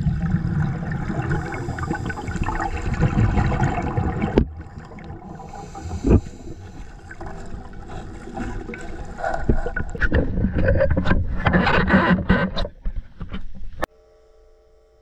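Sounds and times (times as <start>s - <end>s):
water sloshing and splashing: 0.0s - 13.5s.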